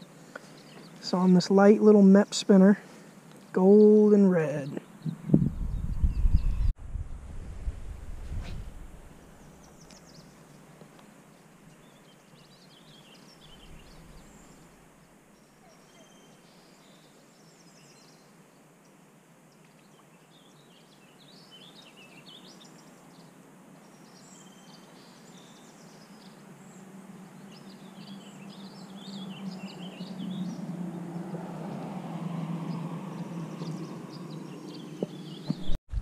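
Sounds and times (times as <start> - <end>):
songbirds chirping: 0.0 - 6.8, 9.0 - 35.8.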